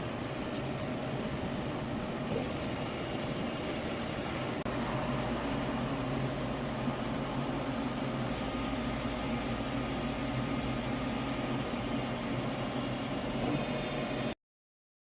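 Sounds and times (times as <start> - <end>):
machine hum with steady tones: 0.0 - 14.4.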